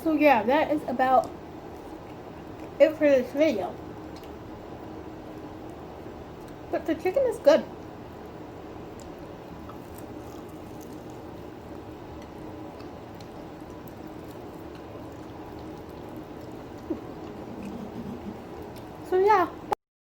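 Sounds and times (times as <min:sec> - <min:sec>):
low hum and hiss: 0:00.0 - 0:19.8.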